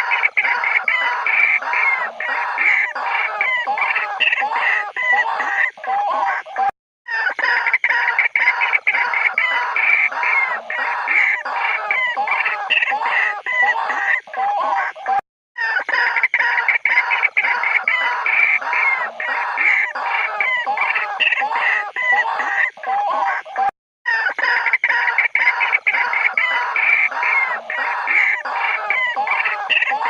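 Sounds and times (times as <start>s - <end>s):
waterhens calling: 0.0s - 30.0s.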